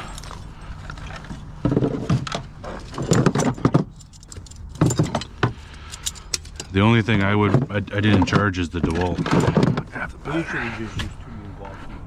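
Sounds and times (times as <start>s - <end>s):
tools clinking and rattling: 0.0s - 9.9s.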